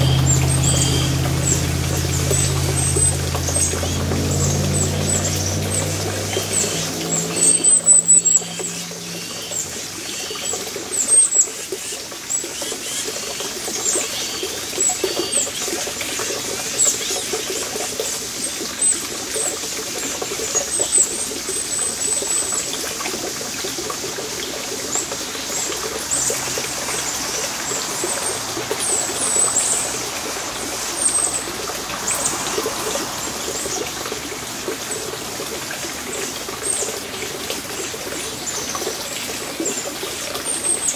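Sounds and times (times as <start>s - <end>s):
trickling water rush: 0.0s - 40.9s.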